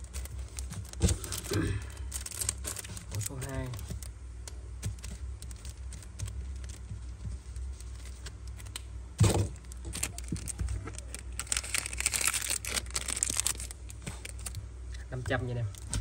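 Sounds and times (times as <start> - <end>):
wrapping rustling: 0.0 - 4.1, 4.7 - 8.8, 9.5 - 14.6.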